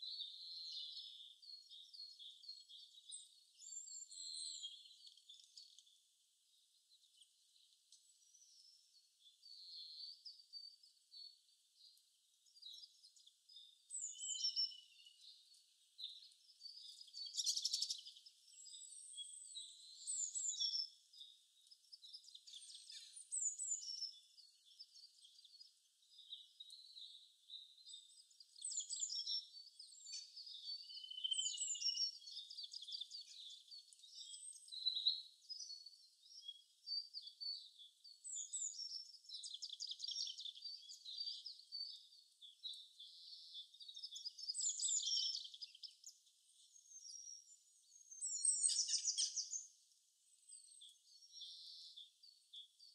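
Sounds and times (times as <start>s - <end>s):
birds chirping and singing: 0.0s - 6.0s, 7.0s - 52.9s.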